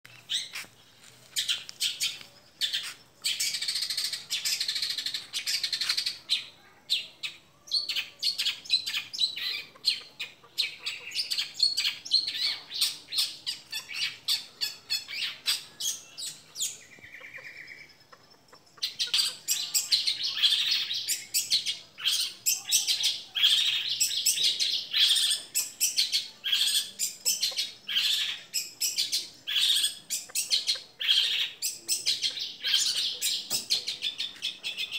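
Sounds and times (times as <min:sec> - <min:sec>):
shrike singing rapid chirps: 0:00.1 - 0:34.9.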